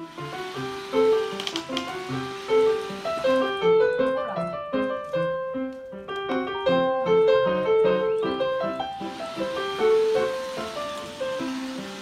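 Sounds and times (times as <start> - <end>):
piano playing light melody: 0.0 - 12.0.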